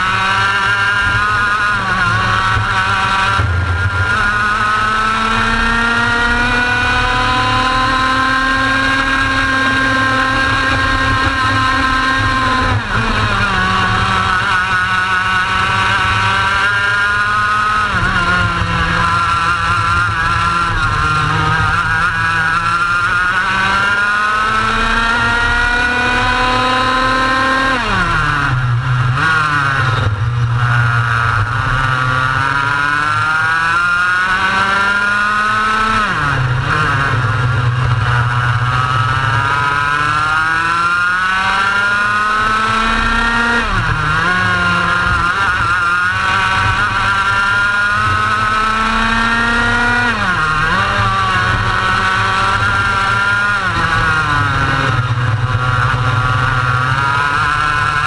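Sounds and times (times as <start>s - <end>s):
racing kart engine revving: 0.0s - 58.0s.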